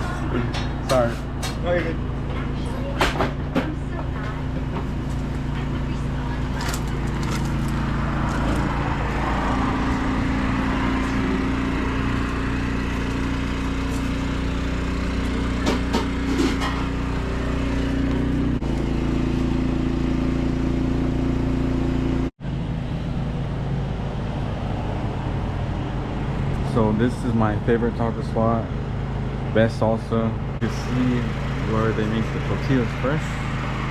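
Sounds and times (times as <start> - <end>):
engine humming: 0.0 - 33.9.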